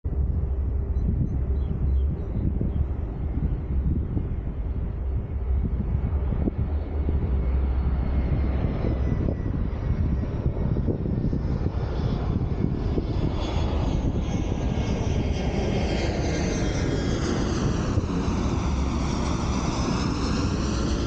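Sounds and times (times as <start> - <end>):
airliner flying overhead: 0.0 - 21.0
high engine whine: 0.0 - 21.0.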